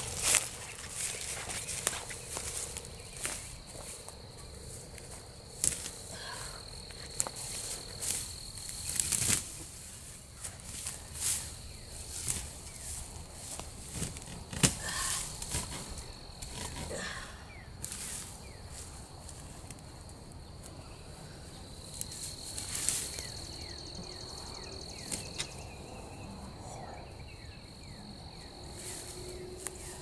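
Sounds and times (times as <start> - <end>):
dead grass and leaves rustling: 0.0 - 30.0
insect calling: 0.0 - 30.0.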